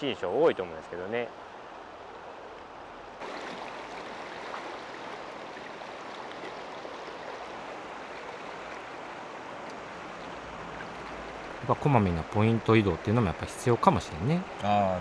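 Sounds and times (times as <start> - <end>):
river water rushing over stones: 2.8 - 15.0.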